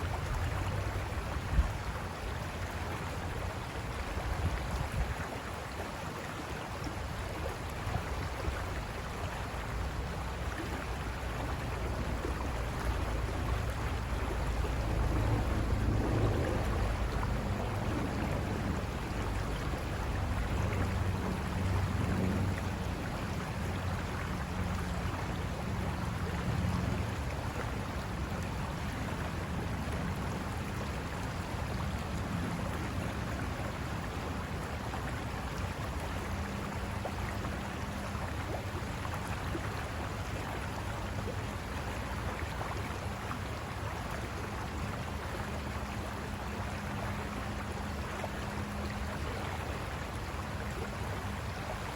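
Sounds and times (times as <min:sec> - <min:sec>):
river water rushing over rocks: 0:00.0 - 0:51.9.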